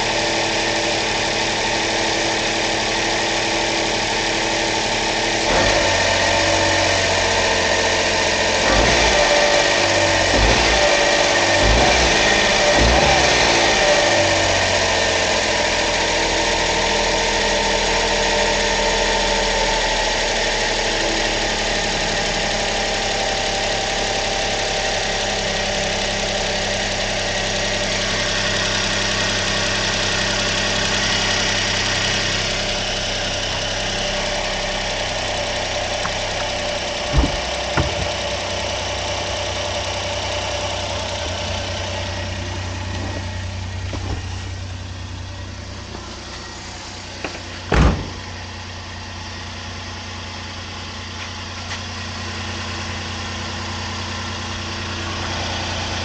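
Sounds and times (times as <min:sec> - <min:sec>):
engine revving: 0:00.0 - 0:48.5, 0:52.0 - 0:56.0
small truck engine idling: 0:00.0 - 0:56.0.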